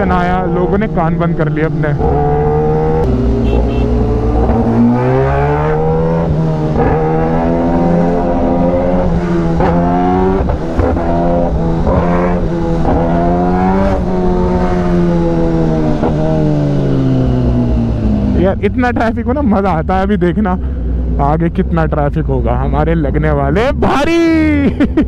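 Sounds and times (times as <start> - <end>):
motorcycle engine accelerating: 0.0 - 21.5.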